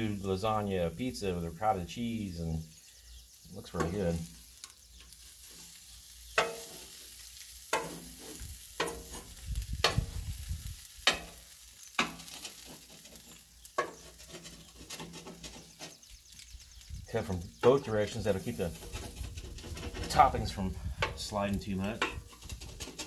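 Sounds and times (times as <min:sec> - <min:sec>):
faint griddle sizzle: 0:00.0 - 0:23.0.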